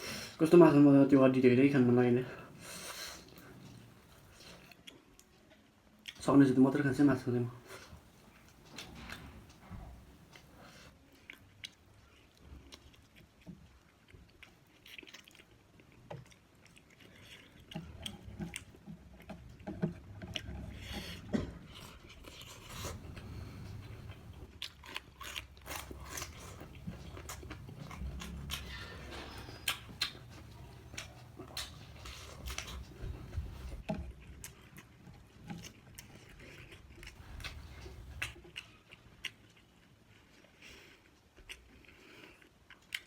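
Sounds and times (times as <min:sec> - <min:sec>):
person chewing food: 0:02.4 - 0:06.2, 0:07.6 - 0:43.0.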